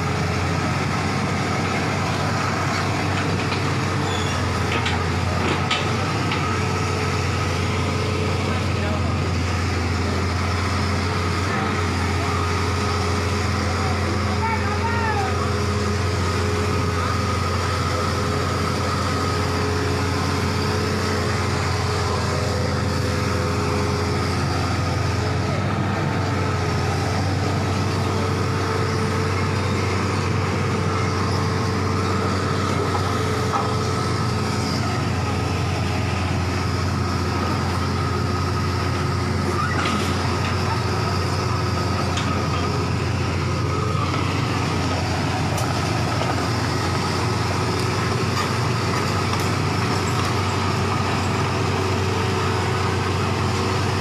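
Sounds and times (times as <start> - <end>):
excavator diesel engine droning: 0.0 - 54.0.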